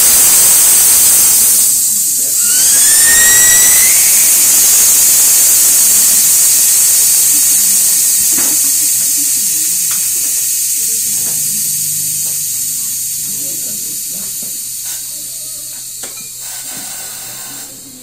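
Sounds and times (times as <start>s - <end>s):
air hissing out: 0.0s - 18.0s.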